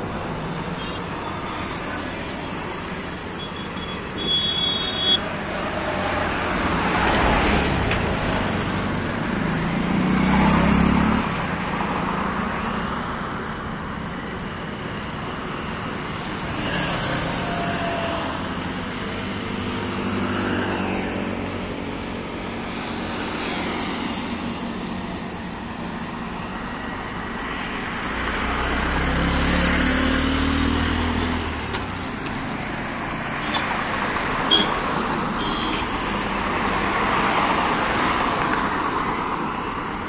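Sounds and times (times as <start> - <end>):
traffic tyre and engine noise: 0.0 - 40.0.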